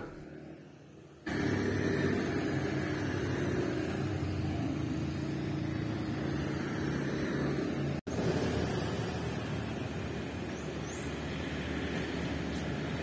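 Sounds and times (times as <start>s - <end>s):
steady road traffic hum: 0.0s - 13.0s.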